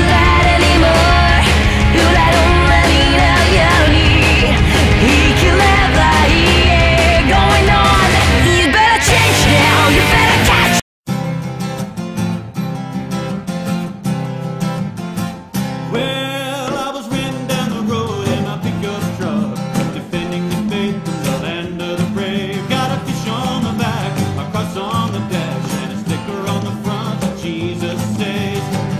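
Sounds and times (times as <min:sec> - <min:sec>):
country music with acoustic guitar: 0:00.0 - 0:28.9.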